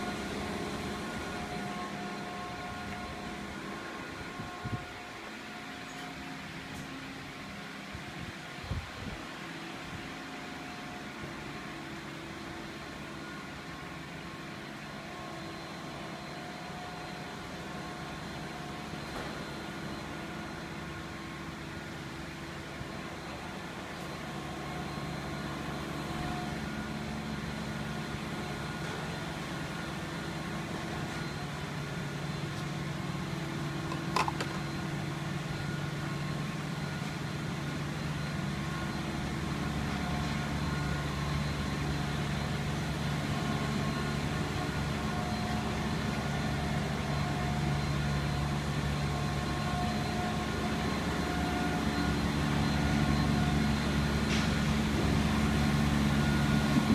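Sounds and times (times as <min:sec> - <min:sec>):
mechanical hum: 0:00.0 - 0:56.9.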